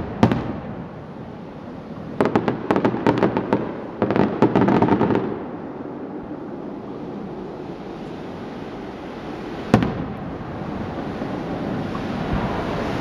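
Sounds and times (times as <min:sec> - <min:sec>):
fireworks rumble: 0:00.0 - 0:13.0.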